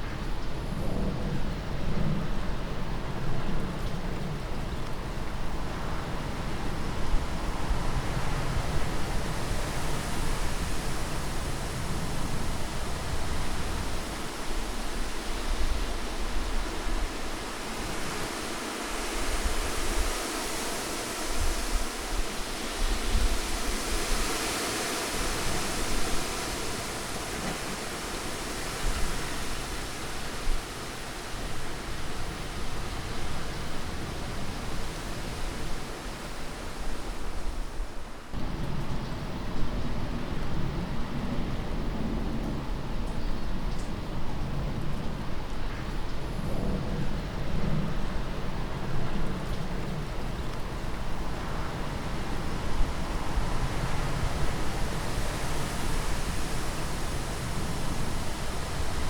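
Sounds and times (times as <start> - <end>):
rushing wind: 0.0 - 59.0.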